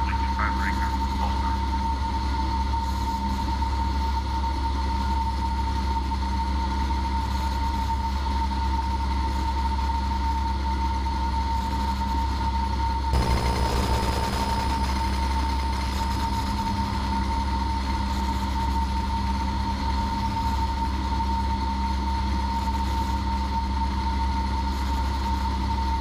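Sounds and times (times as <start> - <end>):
aircraft engine and propeller drone: 0.0 - 26.0.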